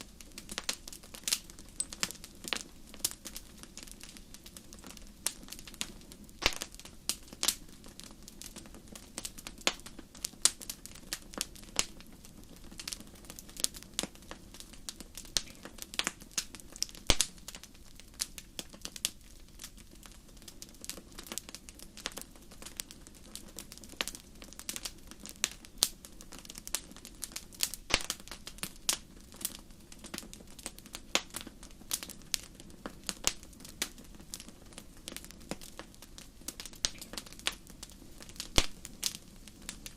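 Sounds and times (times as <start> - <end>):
low steady hiss: 0.0 - 39.9
wood fire crackling: 0.0 - 39.9
sharp pops and snaps: 0.5 - 19.8, 23.9 - 39.9.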